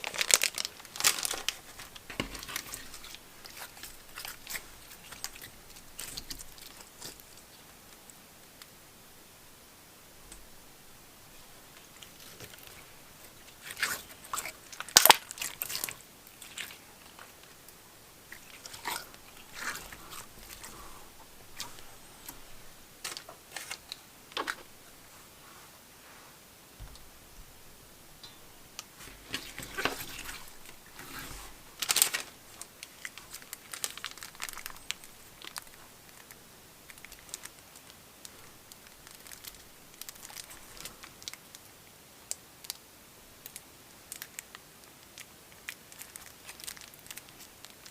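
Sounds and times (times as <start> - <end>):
slime clicking and crackling: 0.0 - 8.7, 11.7 - 24.7, 28.2 - 41.7, 43.4 - 47.9.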